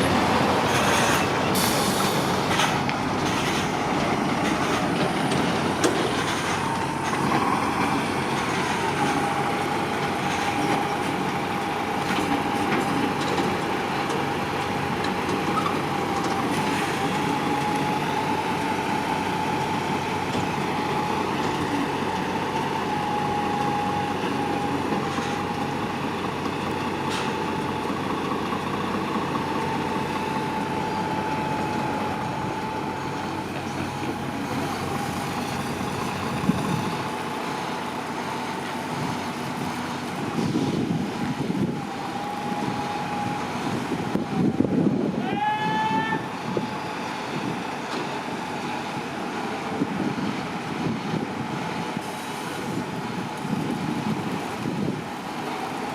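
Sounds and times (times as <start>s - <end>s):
lorry engines rumbling: 0.0s - 55.9s.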